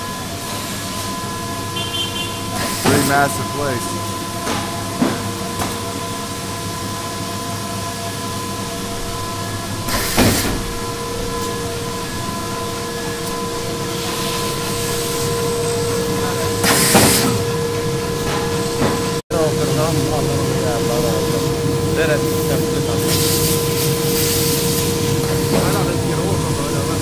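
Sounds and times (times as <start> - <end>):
higher steady hum: 0.0 - 10.0, 10.6 - 27.0
factory machinery droning: 0.0 - 27.0.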